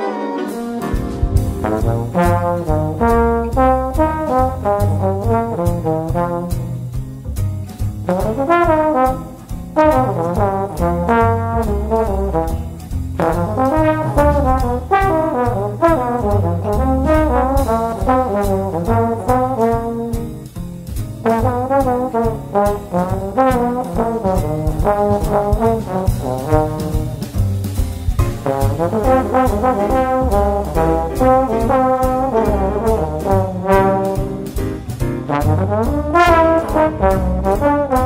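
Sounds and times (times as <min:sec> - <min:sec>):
slide trombone playing jazz melody: 0:00.0 - 0:07.1, 0:07.9 - 0:38.0
bass line: 0:00.8 - 0:38.0
drum taps: 0:00.8 - 0:38.0.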